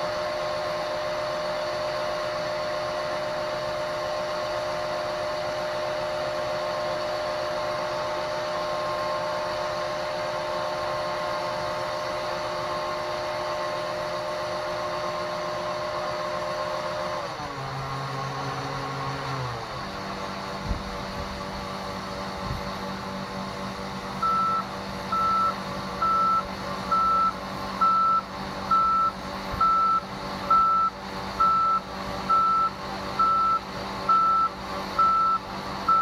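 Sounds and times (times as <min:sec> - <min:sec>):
auger high whine: 0:00.0 - 0:36.0
combine harvester running: 0:00.0 - 0:36.0.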